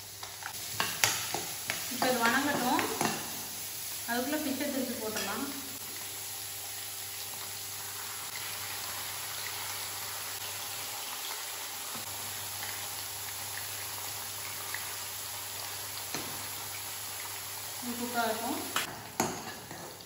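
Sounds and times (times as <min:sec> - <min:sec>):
fish sizzling in oil: 0:00.0 - 0:20.0.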